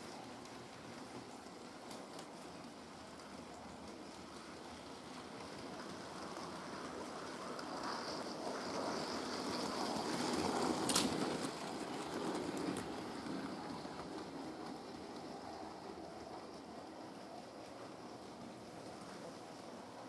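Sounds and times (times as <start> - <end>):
model train whirring rumble: 0.0 - 20.0.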